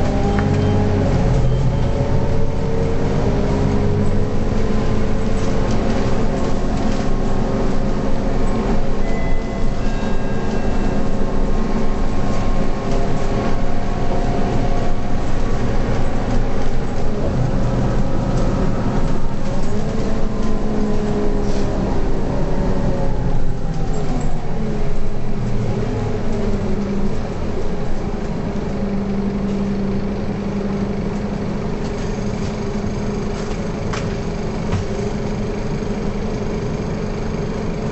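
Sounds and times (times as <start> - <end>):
bus diesel engine: 0.0 - 37.9.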